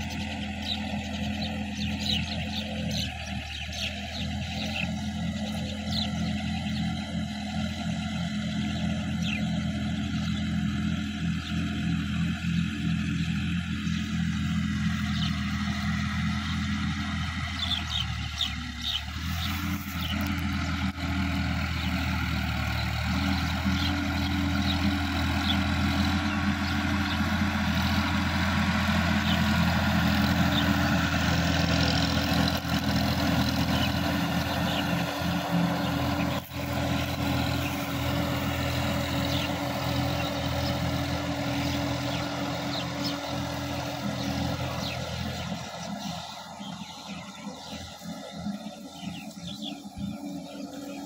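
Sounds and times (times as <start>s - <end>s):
bird chirps: 0.0s - 7.7s, 8.6s - 20.5s, 22.7s - 51.0s
tractor diesel engine running: 0.0s - 51.0s.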